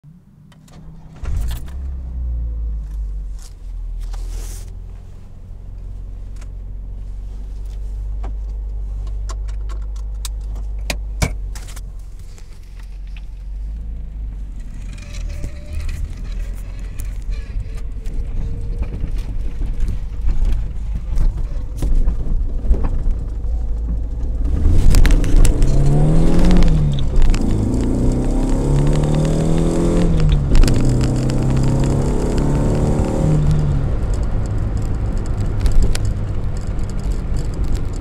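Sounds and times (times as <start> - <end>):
car engine running: 0.6 - 38.0.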